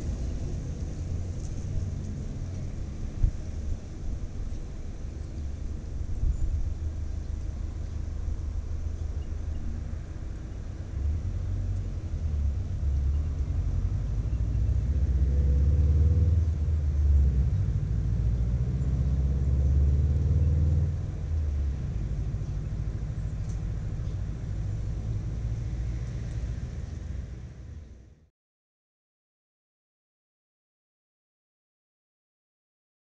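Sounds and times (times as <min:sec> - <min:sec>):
low outdoor rumble: 0:00.0 - 0:28.3.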